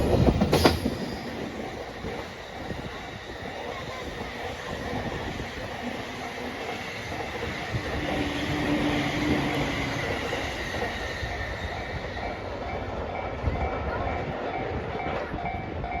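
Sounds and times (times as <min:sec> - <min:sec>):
train wheels rumbling on rail: 0:00.0 - 0:16.0
level-crossing warning bell: 0:02.9 - 0:16.0.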